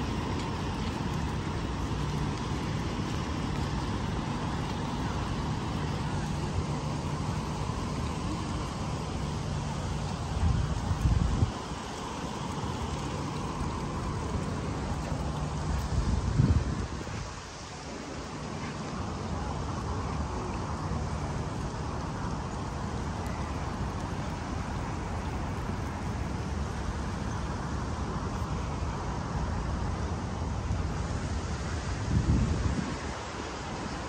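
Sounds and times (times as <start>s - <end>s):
distant road traffic rumble: 0.0s - 34.0s.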